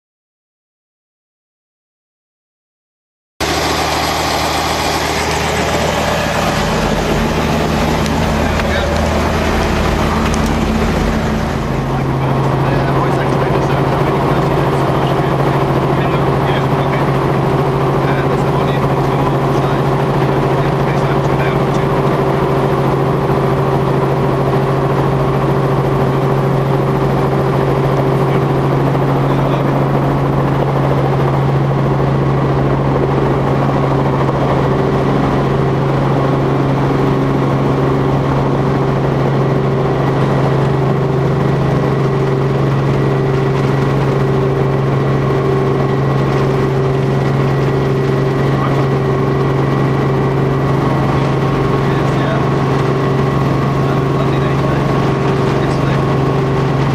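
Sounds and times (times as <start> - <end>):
helicopter engine and rotors: 3.4 - 56.9.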